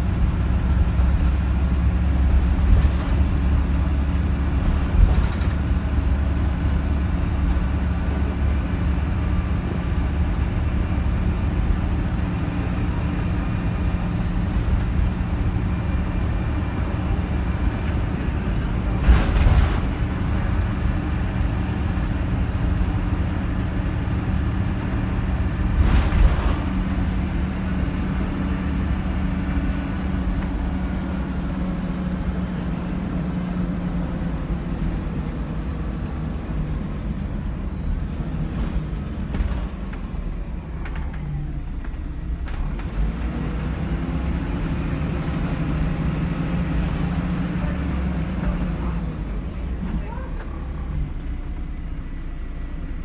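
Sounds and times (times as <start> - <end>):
bus diesel engine humming: 0.0 - 53.0
road rumble: 0.0 - 53.0.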